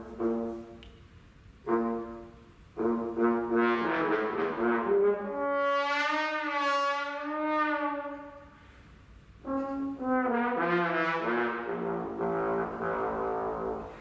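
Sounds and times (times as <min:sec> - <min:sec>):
brass ensemble playing chords: 0:00.0 - 0:00.9, 0:01.6 - 0:08.7, 0:09.3 - 0:14.0.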